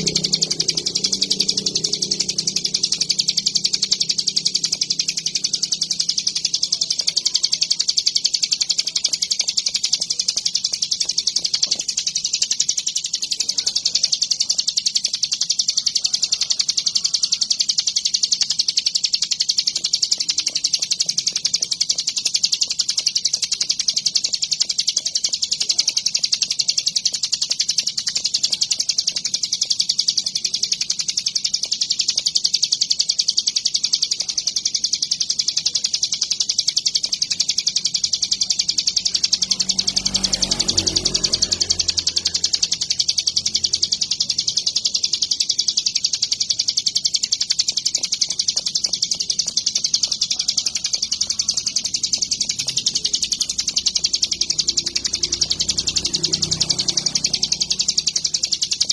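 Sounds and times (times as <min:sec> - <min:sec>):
songbird chattering trill: 0:00.0 - 0:58.9.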